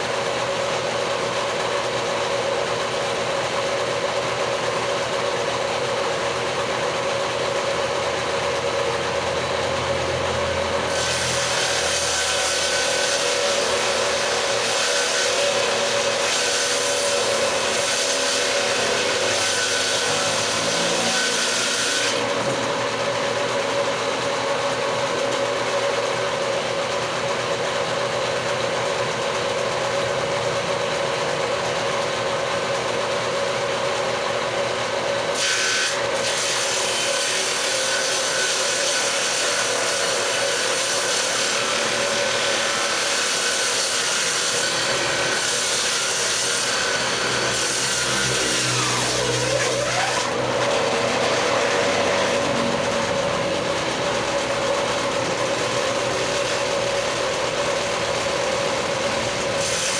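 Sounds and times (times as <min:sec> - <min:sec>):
power tool cutting wood: 0:00.0 - 0:59.9.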